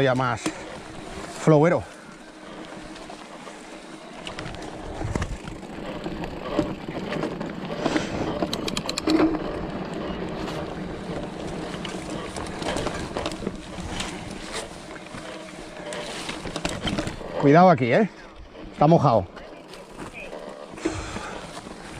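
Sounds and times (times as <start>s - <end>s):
bike rattling over bumps: 0.0s - 21.9s
bike tyres on dirt: 0.0s - 21.9s.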